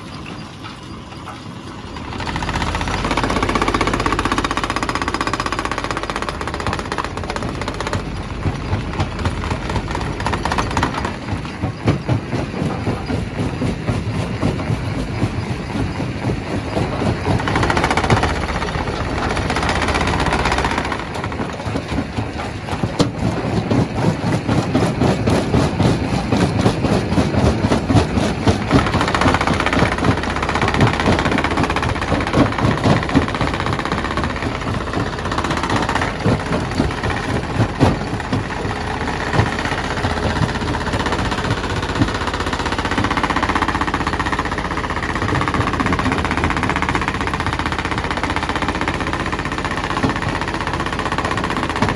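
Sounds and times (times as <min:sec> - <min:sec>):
rock crusher running: 0:00.0 - 0:51.9
rattling and knocking of rock: 0:00.2 - 0:51.9.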